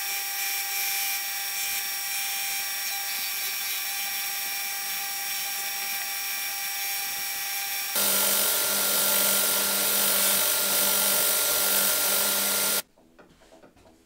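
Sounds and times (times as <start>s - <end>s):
belt grinder grinding steel: 1.1s - 12.8s.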